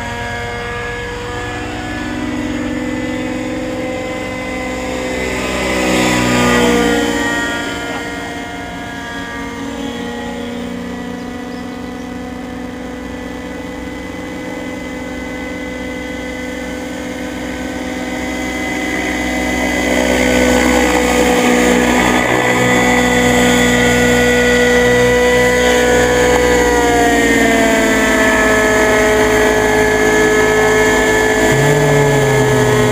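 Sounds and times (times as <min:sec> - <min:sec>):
engine running: 0:00.0 - 0:32.9.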